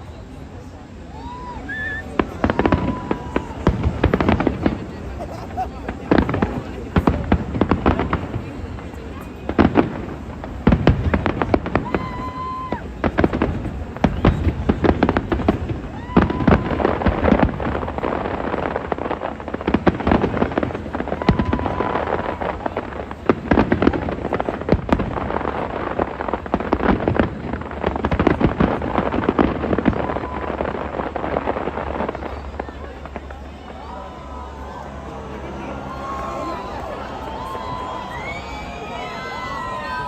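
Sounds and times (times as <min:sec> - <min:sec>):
fireworks banging and crackling: 0:00.0 - 0:40.0.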